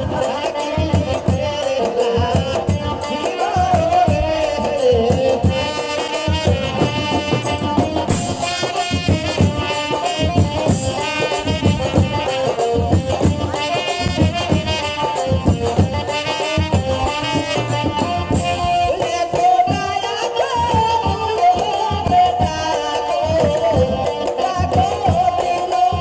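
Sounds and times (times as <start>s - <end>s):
folk ensemble melody: 0.0s - 26.0s
hand drum beat: 0.0s - 26.0s
rattling percussion: 0.0s - 26.0s.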